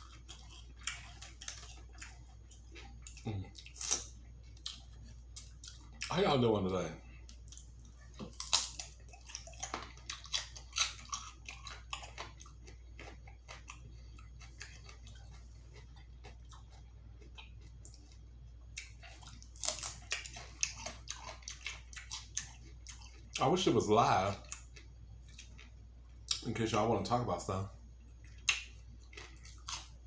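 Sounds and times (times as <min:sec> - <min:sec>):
person chewing and biting: 0:00.0 - 0:06.1, 0:07.2 - 0:23.4, 0:24.3 - 0:26.5, 0:28.2 - 0:30.0
steady low hum: 0:00.0 - 0:30.0.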